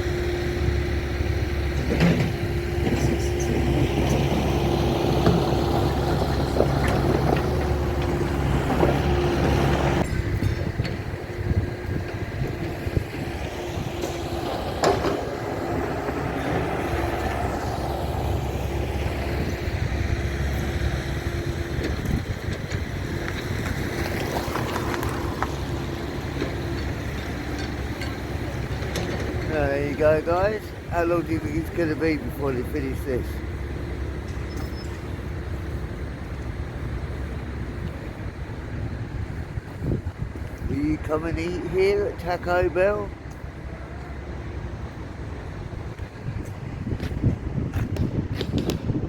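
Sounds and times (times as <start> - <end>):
vehicle engine rumbling: 0.0 - 49.0.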